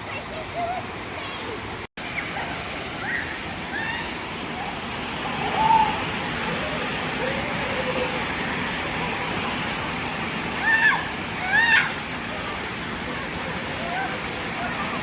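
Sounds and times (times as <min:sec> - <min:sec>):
distant voices: 0:00.0 - 0:15.0
waterfall rushing: 0:00.0 - 0:15.0.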